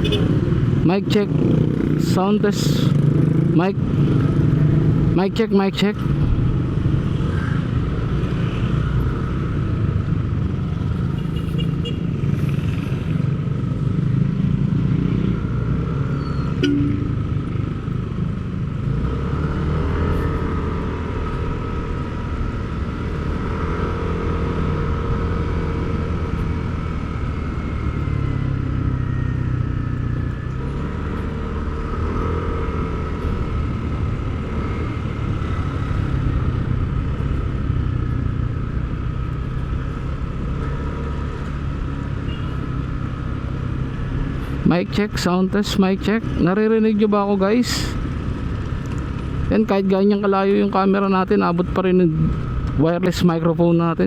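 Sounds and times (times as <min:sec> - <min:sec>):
vehicle engines rumbling: 0:00.0 - 0:54.0.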